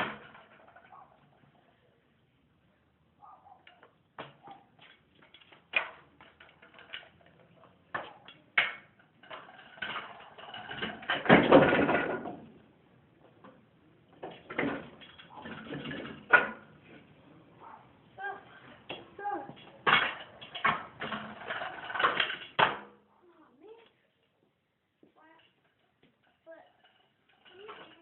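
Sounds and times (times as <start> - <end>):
scooter scraping on concrete: 0.0 - 1.8, 3.2 - 12.6, 14.2 - 22.8, 25.4 - 28.0.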